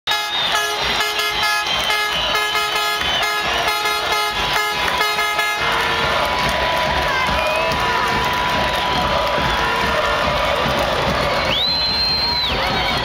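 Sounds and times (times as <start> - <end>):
stadium crowd noise: 0.0 - 13.0
air horns tooting: 0.1 - 11.4.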